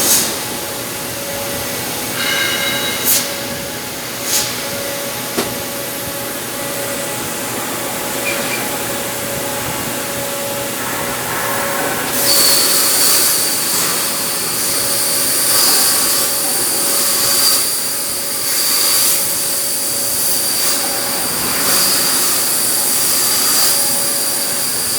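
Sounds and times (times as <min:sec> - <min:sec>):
cutting machine hiss: 0:00.0 - 0:24.9.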